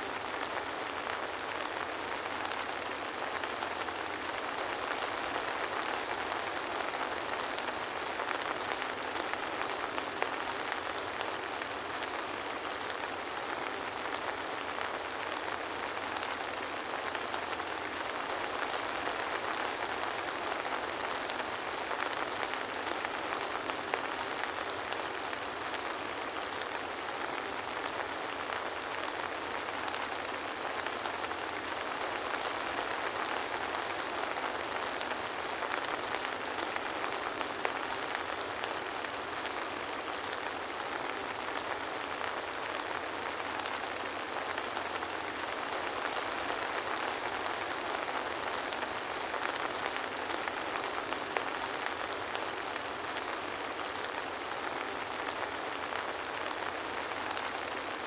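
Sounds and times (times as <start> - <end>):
soft rain falling: 0.0 - 58.0.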